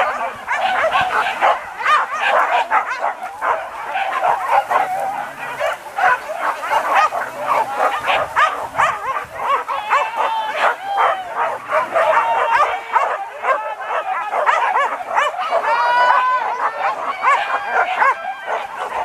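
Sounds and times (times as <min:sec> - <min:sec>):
dogs yelping and barking: 0:00.0 - 0:19.0.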